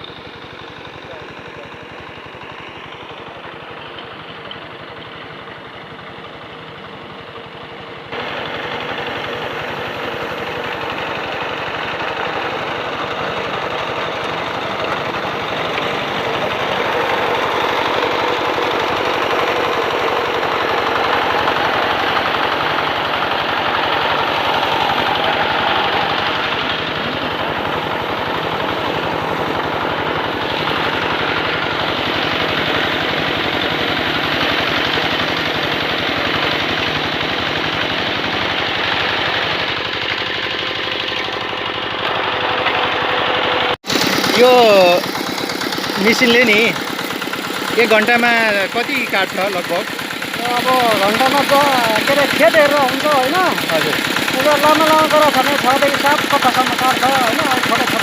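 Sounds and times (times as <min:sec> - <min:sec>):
harvester engine chattering: 0:00.0 - 0:58.0.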